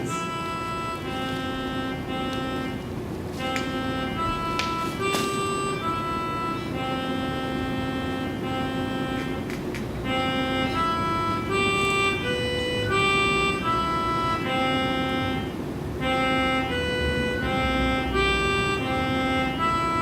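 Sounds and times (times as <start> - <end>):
organ-like keyboard chords: 0.0 - 20.0.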